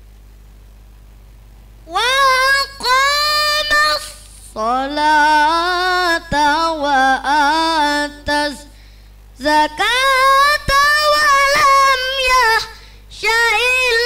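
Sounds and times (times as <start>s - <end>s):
boy reciting melodically: 1.8s - 8.8s, 9.4s - 14.0s.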